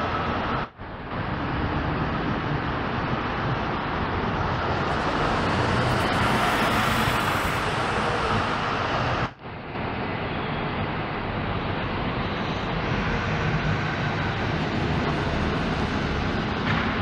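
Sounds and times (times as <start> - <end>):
bus approaching: 0.0 - 17.0
bus driving past: 0.0 - 17.0.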